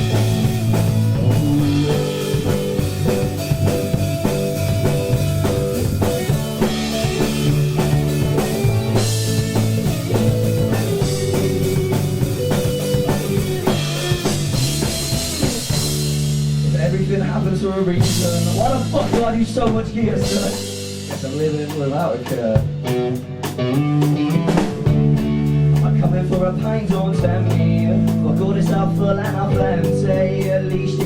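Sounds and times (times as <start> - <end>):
drum kit beat: 0.0 - 31.0
guitars: 0.0 - 31.0
rock band playing live: 0.0 - 31.0.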